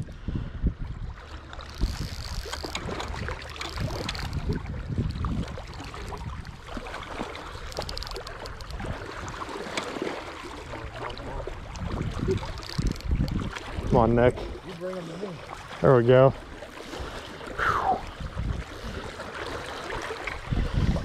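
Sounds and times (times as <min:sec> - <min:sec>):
wind rumble on microphone: 0:00.0 - 0:09.8, 0:10.4 - 0:14.8, 0:15.5 - 0:21.0.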